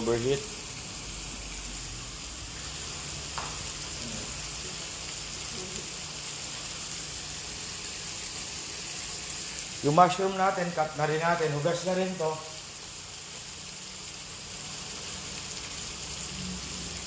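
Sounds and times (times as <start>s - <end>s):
chicken sizzling in a skillet: 0.0s - 17.0s.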